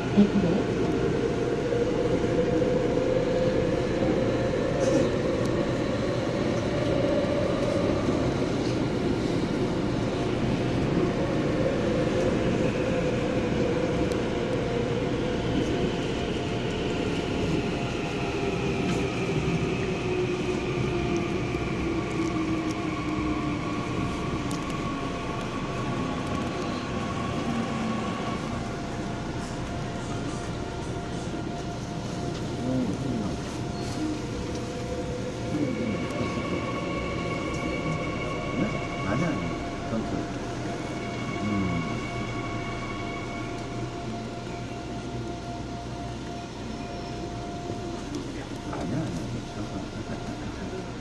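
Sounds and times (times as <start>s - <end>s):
electric train rumble: 0.0s - 51.0s
train motor whine: 9.5s - 51.0s.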